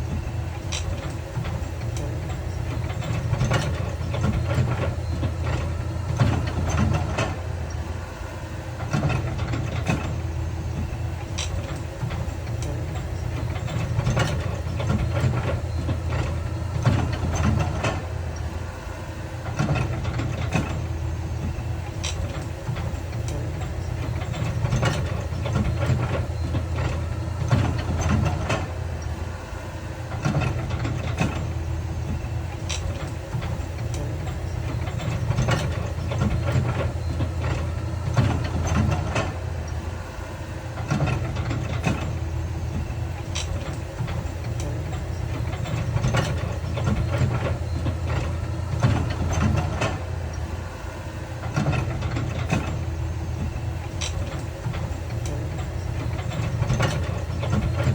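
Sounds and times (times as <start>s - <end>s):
diesel machinery running: 0.0s - 57.9s.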